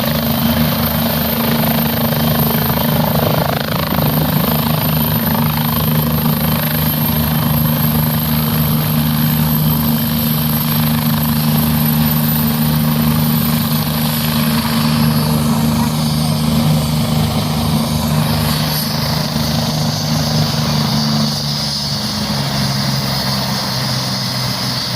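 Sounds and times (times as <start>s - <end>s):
faint high whine: 0.0s - 22.1s
helicopter rotor beat: 0.0s - 24.9s.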